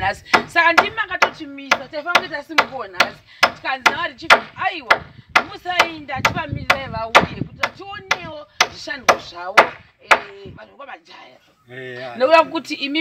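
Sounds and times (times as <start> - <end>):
hammering nails: 0.0 - 10.6.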